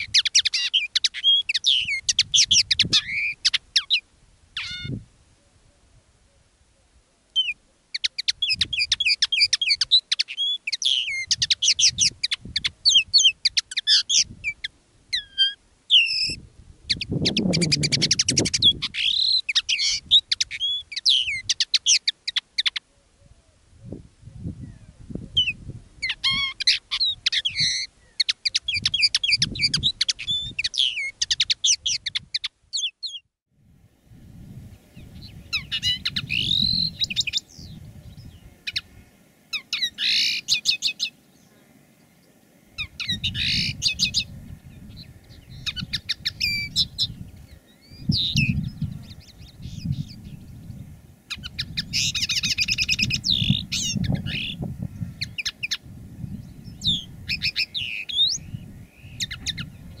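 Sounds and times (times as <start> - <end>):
birds twittering song: 0.0 - 4.0, 4.6 - 5.0, 7.2 - 33.4, 34.4 - 60.0.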